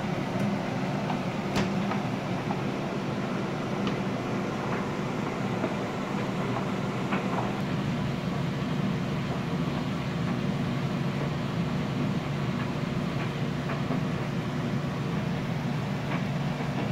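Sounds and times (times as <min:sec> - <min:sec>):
laundry machines humming: 0:00.0 - 0:16.9.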